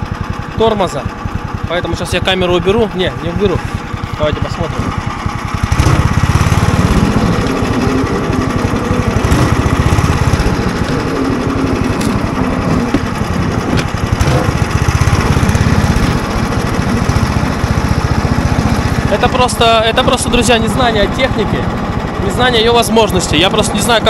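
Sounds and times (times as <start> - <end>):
snow tow engine running: 0.0 - 24.0.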